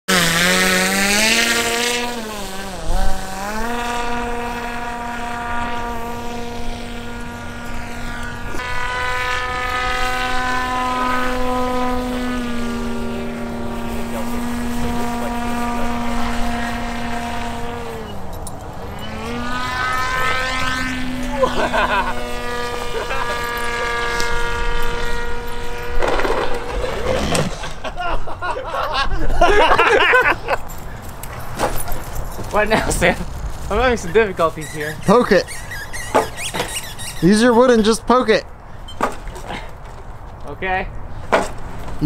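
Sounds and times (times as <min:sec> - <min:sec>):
model airplane motor buzzing: 0:00.1 - 0:27.8, 0:30.6 - 0:40.0.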